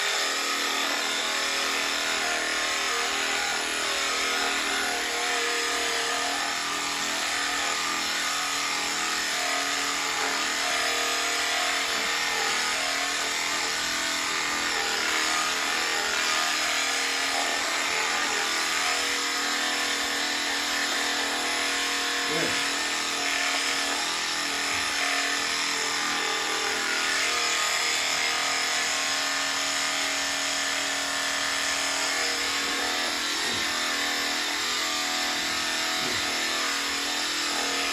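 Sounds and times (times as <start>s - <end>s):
electric sheep shears buzzing: 0.0s - 37.9s.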